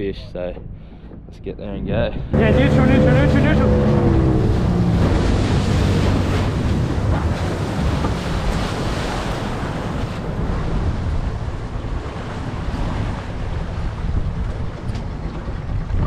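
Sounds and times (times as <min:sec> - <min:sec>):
wind buffeting microphone: 0:00.0 - 0:16.0
outboard motor rumble: 0:00.6 - 0:16.0
water rushing past boat: 0:02.3 - 0:16.0.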